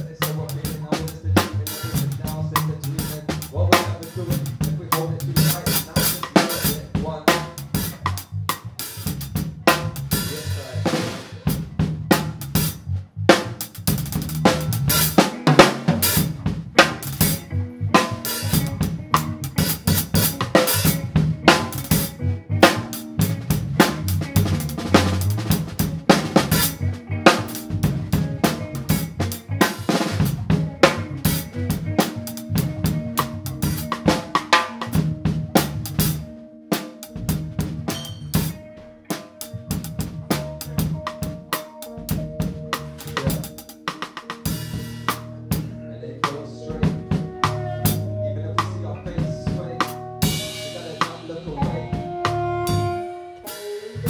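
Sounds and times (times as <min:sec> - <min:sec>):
drum kit: 0:00.0 - 0:54.0
funk band playing: 0:00.0 - 0:54.0.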